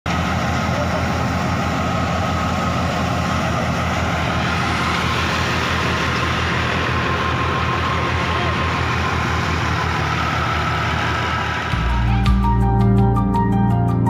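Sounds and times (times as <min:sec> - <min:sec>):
tractor diesel engine running: 0:00.0 - 0:13.3
thresher whine: 0:00.1 - 0:12.4.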